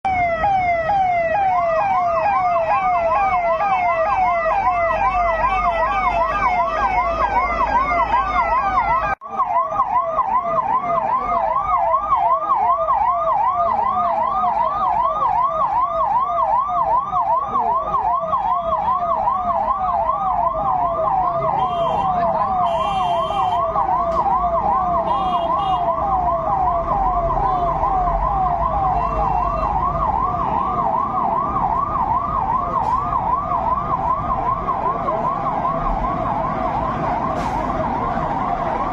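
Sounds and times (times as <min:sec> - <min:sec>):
police siren yelping: 0:00.1 - 0:38.9.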